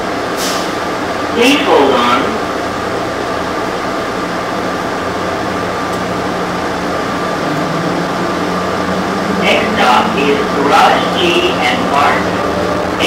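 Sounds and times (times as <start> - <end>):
train cabin hum: 0.0 - 13.0.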